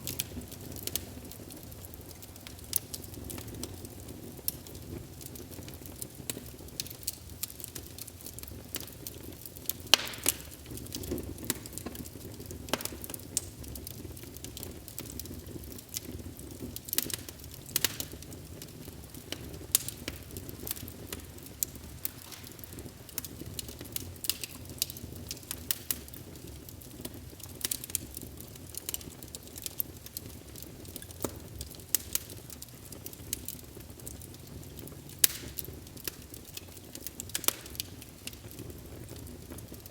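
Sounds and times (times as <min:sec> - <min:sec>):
fire crackling and popping: 0:00.0 - 0:39.9
flames rumbling: 0:00.0 - 0:39.9.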